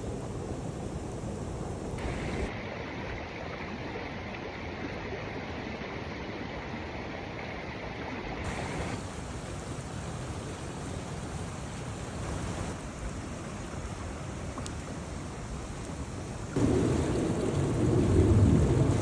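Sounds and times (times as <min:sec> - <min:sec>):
steady rushing outdoor noise: 0:00.0 - 0:14.5, 0:15.3 - 0:19.0.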